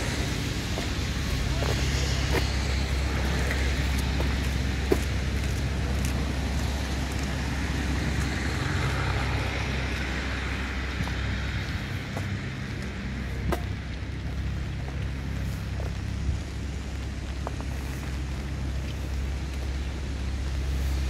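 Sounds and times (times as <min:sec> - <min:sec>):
traffic rumble: 0:00.0 - 0:21.0
tyres hissing on wet road: 0:00.0 - 0:21.0.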